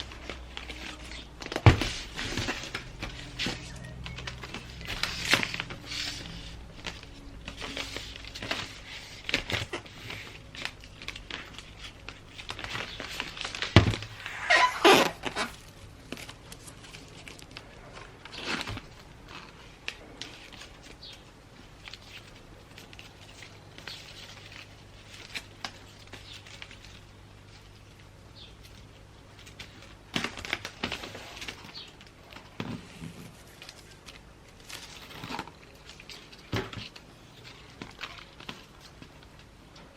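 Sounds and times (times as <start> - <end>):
wrapping paper rustling and crinkling: 0.0 - 39.9.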